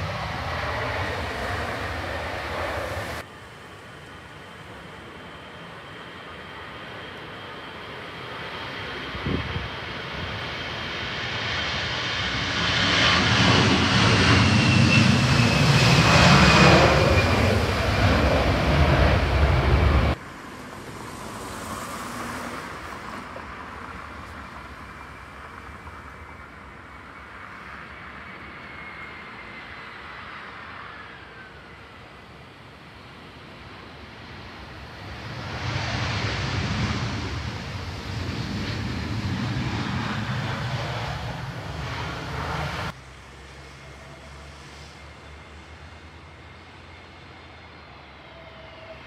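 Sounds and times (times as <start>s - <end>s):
jet engine falling whine: 0.0s - 49.0s
jet engines roaring: 0.0s - 49.0s.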